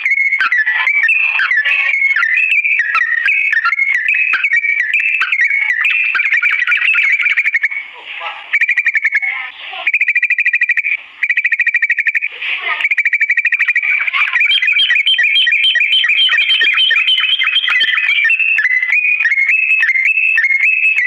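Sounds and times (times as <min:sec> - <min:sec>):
bulbul song trills: 0:00.0 - 0:21.0
harsh bird call: 0:00.0 - 0:21.0.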